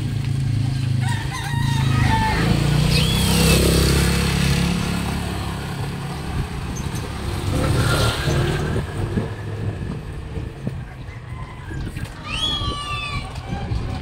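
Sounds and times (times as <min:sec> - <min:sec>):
motor vehicles passing: 0:00.0 - 0:14.0.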